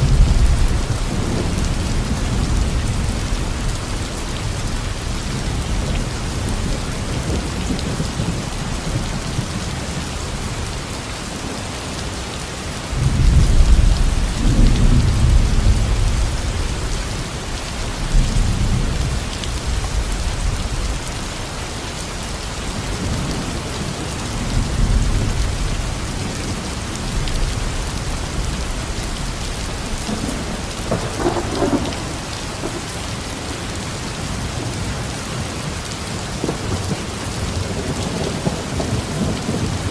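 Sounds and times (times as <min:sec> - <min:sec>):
thunder rumbling: 0:00.0 - 0:10.4, 0:13.0 - 0:21.1, 0:22.7 - 0:34.9, 0:35.6 - 0:39.9
steady rain falling: 0:00.0 - 0:39.9.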